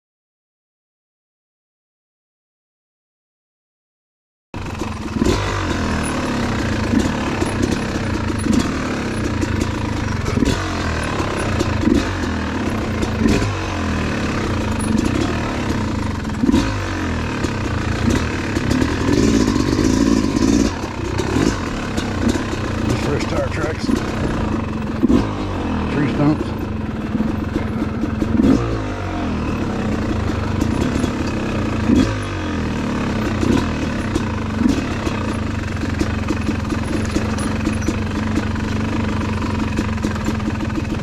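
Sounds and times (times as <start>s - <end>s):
dirt bike engine revving: 4.6s - 41.0s.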